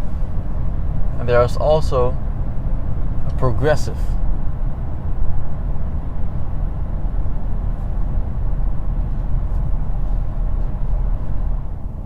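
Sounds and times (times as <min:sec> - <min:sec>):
road and tyre rumble in car cabin: 0:00.0 - 0:12.0.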